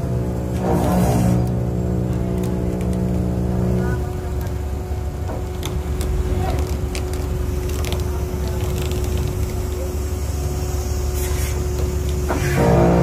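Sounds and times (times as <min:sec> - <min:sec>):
boat engine rumble: 0:00.0 - 0:13.0
machinery hum: 0:00.0 - 0:13.0.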